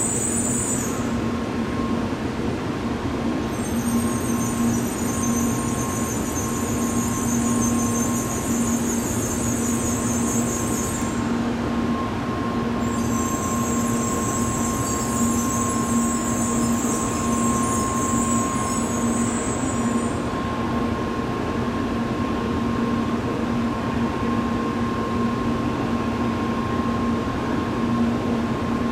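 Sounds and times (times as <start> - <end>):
train equipment humming: 0.0 - 28.9.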